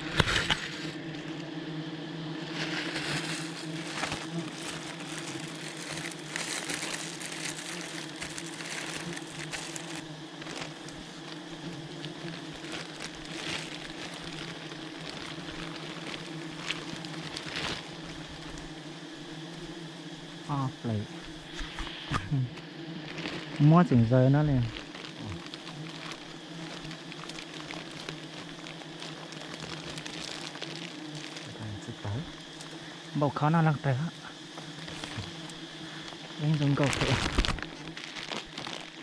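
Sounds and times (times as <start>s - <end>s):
honeybee colony humming: 0.0s - 39.0s.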